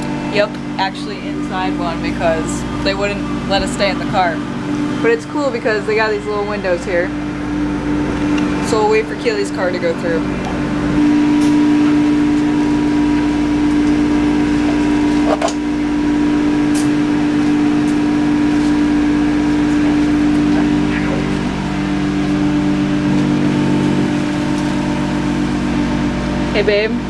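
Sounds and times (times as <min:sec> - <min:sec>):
car wash machinery humming: 0:00.0 - 0:27.0.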